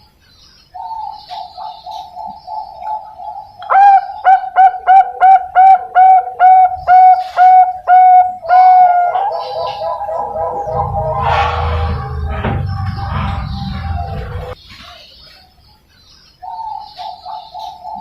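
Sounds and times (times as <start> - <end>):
dove cooing trill: 0.8 - 14.6, 16.5 - 18.0.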